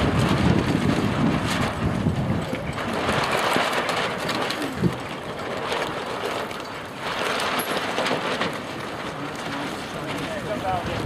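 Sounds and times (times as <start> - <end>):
gusty wind: 0.0 - 11.0.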